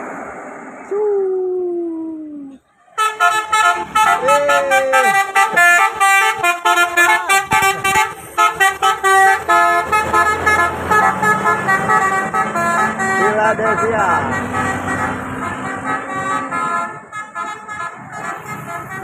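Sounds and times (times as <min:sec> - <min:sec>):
bus engine hum: 0:00.0 - 0:19.0
musical air horn tune: 0:03.0 - 0:19.0.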